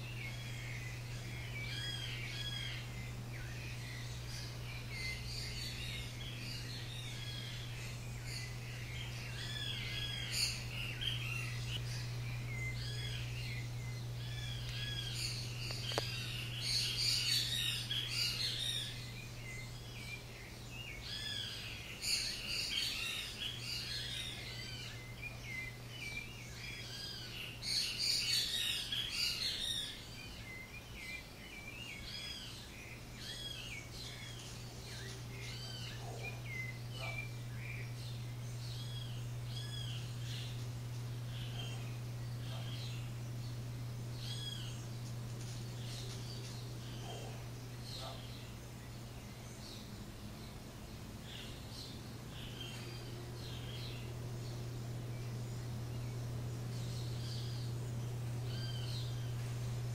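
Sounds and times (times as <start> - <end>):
small birds chirping and twittering: 0.0 - 59.9
steady low hum: 0.0 - 59.9.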